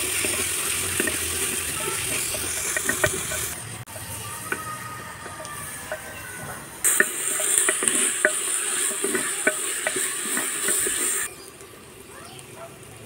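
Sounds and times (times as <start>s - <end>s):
onions sizzling in hot oil: 0.0s - 6.2s, 6.8s - 13.0s
utensil scraping pot: 0.0s - 11.3s.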